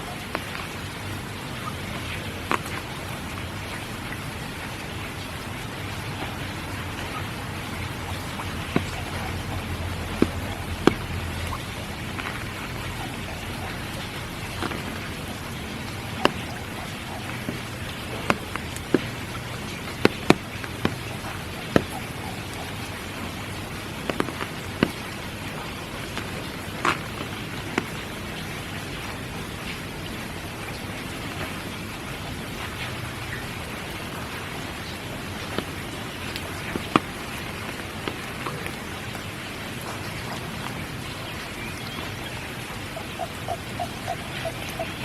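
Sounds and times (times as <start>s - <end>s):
steady rain: 0.0s - 45.0s
drops ticking on surfaces: 0.1s - 0.9s, 6.2s - 29.2s, 32.7s - 45.0s.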